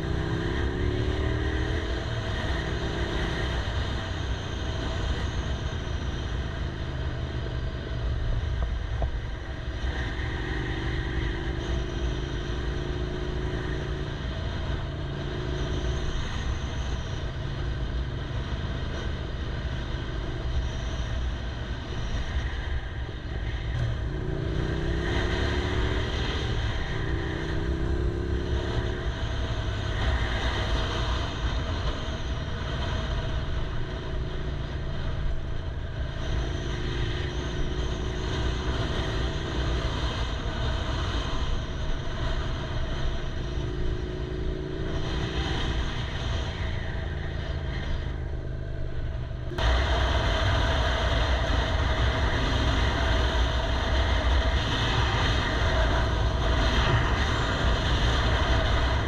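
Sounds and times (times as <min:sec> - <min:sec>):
motorcycle engine accelerating: 0:00.0 - 0:59.0
wind rumble: 0:00.0 - 0:59.0.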